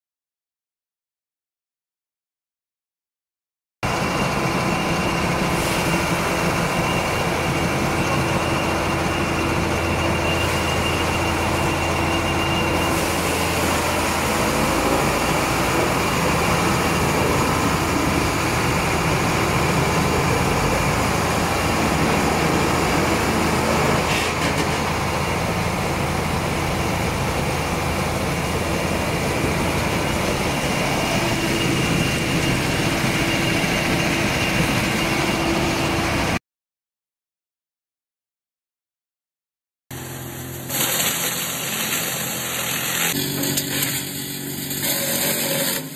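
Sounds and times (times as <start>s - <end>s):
high mechanical whine: 3.8s - 36.4s, 39.9s - 45.9s
wood chipper droning: 3.9s - 36.4s, 39.9s - 45.9s.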